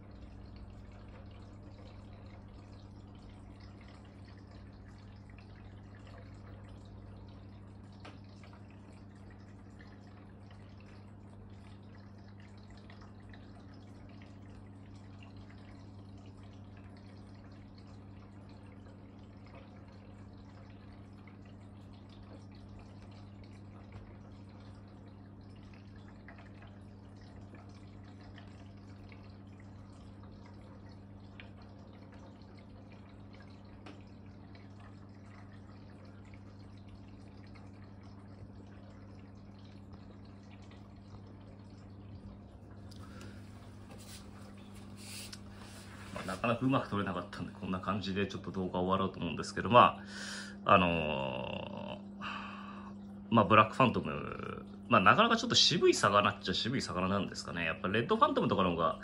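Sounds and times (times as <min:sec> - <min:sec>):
aquarium equipment humming: 0:00.0 - 0:59.0
water trickling and dripping: 0:00.0 - 0:59.0.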